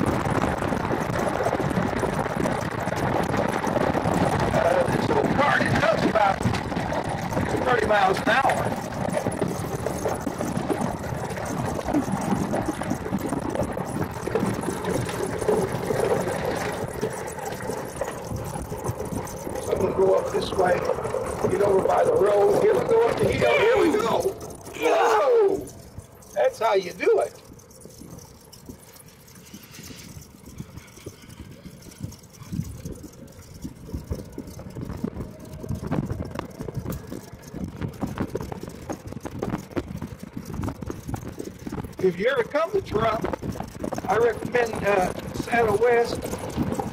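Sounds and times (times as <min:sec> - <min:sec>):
golf cart on gravel: 0:00.0 - 0:46.9
rattling and knocking body: 0:00.0 - 0:46.9.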